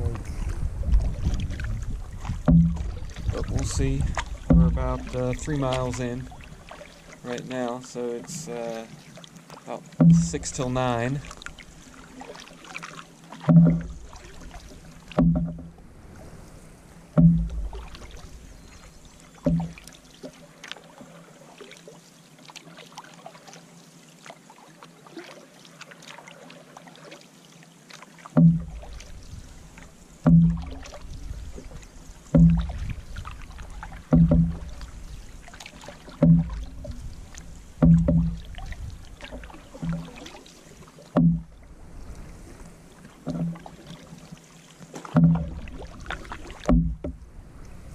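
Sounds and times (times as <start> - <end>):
canoe paddle strokes in water: 0.0 - 47.9.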